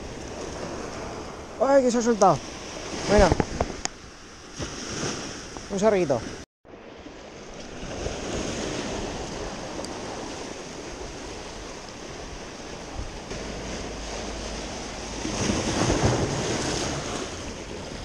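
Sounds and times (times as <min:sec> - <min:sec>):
sea waves washing on shore: 0:00.0 - 0:18.0
wind on microphone: 0:02.2 - 0:05.8, 0:07.0 - 0:18.0.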